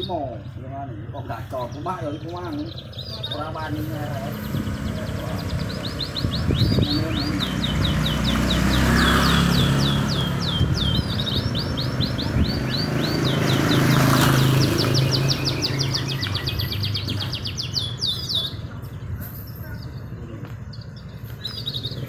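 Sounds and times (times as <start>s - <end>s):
canaries singing trills: 0.0s - 22.0s.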